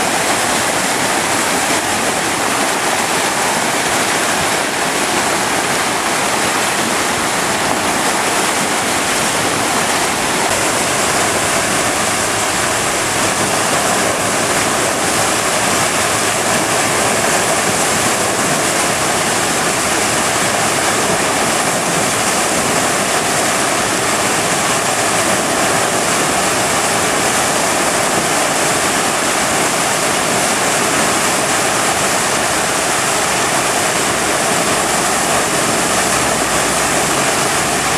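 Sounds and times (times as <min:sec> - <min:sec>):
water rushing over a dam: 0:00.0 - 0:37.9.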